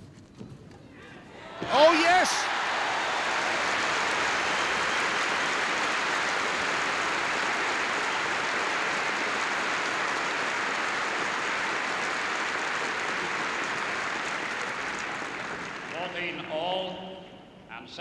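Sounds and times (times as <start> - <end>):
crowd applauding: 1.4 - 16.4.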